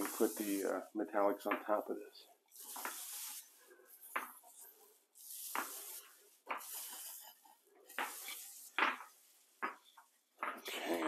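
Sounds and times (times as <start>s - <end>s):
paint roller swishing: 0.0s - 10.4s.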